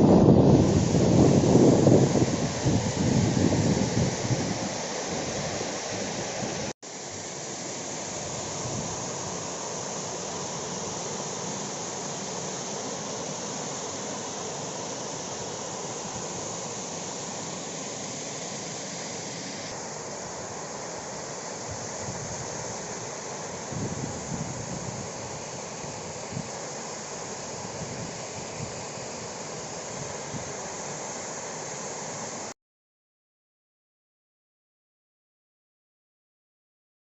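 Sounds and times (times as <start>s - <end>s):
waterfall rushing: 0.0s - 32.5s.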